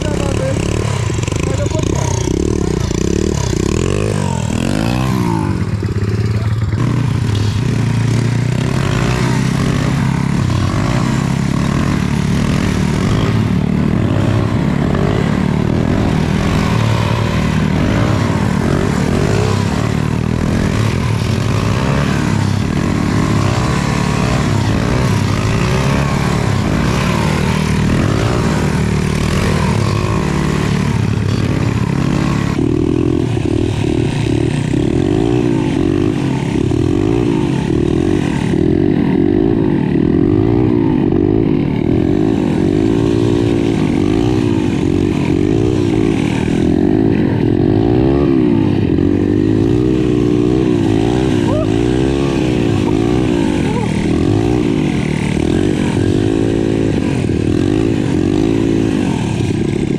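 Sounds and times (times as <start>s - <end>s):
pit bike engines revving: 0.0s - 59.9s.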